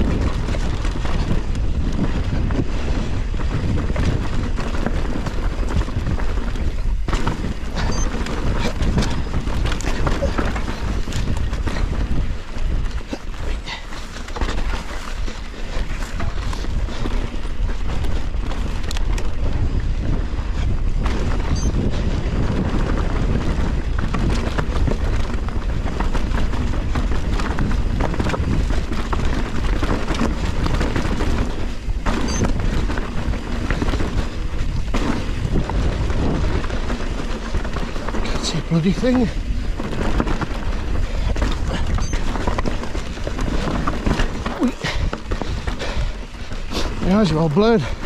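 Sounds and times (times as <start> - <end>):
bike clattering over rocks: 0.0 - 48.0
wind buffeting microphone: 0.0 - 48.0.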